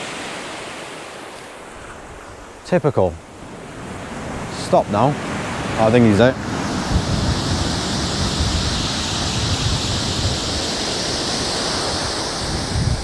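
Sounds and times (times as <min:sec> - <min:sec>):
surf breaking on shingle beach: 0:00.0 - 0:13.0
wind buffeting microphone: 0:01.6 - 0:13.0.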